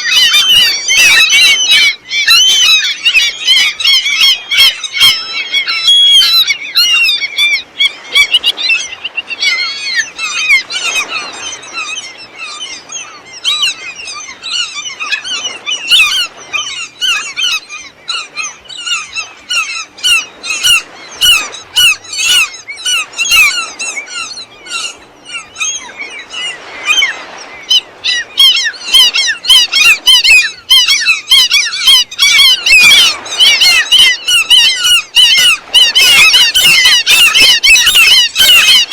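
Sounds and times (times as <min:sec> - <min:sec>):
gulls squawking: 0:00.0 - 0:38.9.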